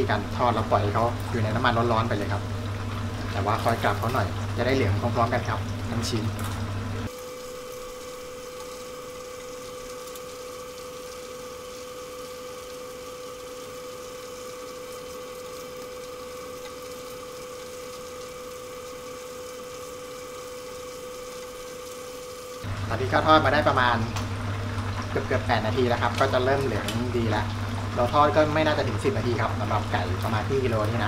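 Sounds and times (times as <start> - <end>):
food deep-frying in hot oil: 0.0 - 31.0.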